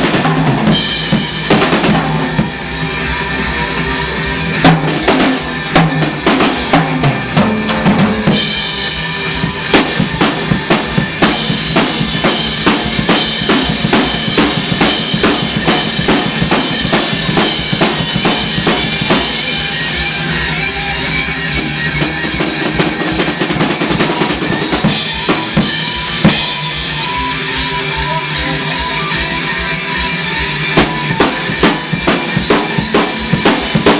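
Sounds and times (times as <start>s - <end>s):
drum kit playing: 0.0s - 33.9s
rock music: 0.0s - 33.9s.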